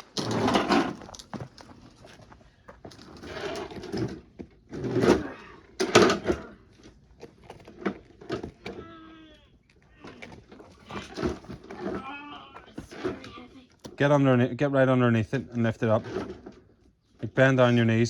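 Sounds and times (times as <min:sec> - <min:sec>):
lawnmower bumping and scraping: 0:00.0 - 0:18.0.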